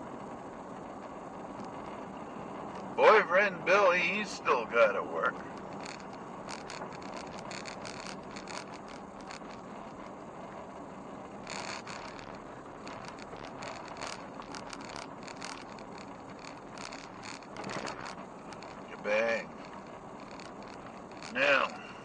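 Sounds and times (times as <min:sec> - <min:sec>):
vehicle road noise: 0:00.0 - 0:22.0
small clicks and rattles: 0:00.8 - 0:03.0, 0:05.3 - 0:22.0.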